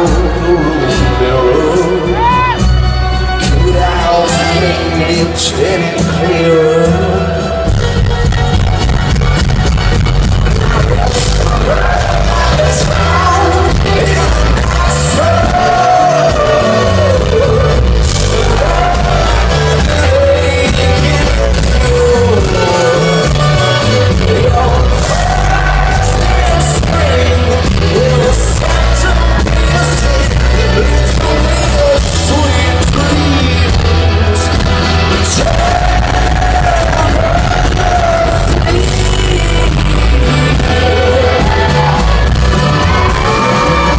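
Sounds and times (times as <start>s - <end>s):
live rock band playing: 0.0s - 43.9s
man singing lead vocals: 0.0s - 43.9s.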